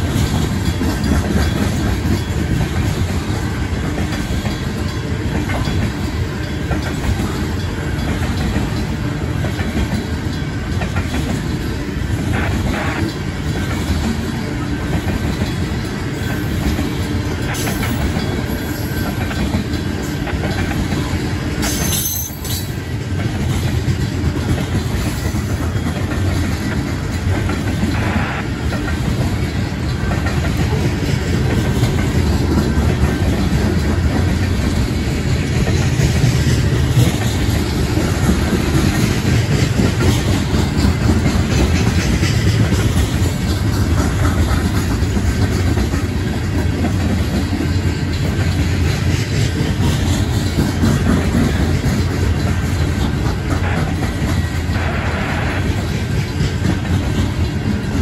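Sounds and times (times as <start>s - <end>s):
train cars rumbling past: 0.0s - 58.0s
wheels clacking over rail joints: 0.0s - 58.0s.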